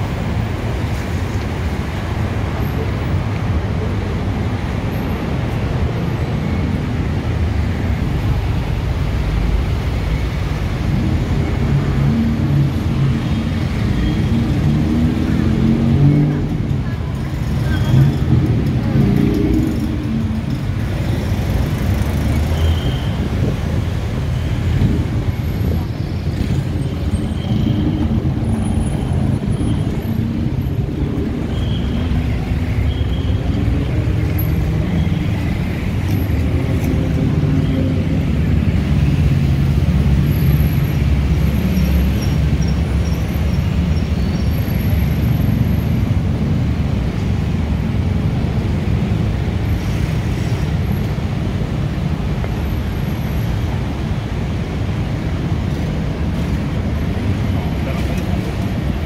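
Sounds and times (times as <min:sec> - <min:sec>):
dense road traffic rumble: 0:00.0 - 0:59.0.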